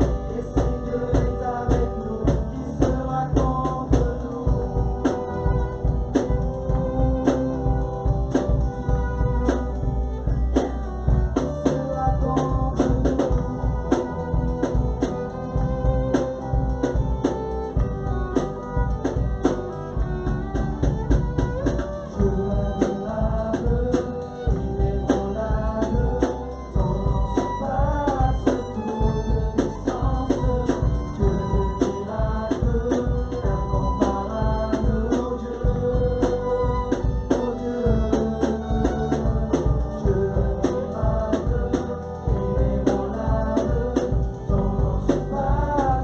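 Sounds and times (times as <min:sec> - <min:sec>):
song with drums bass and vocals: 0:00.0 - 0:46.0.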